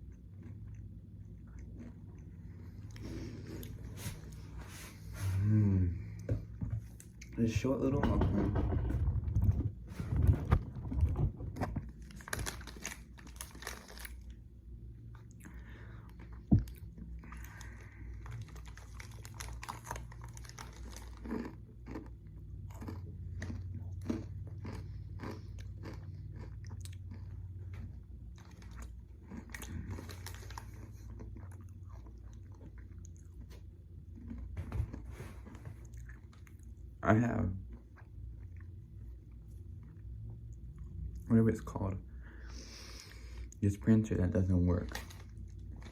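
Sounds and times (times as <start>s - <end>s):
person chewing crunchy granola bar: 0.0s - 6.3s, 10.0s - 41.6s, 44.4s - 45.9s
low steady hum: 0.0s - 45.9s.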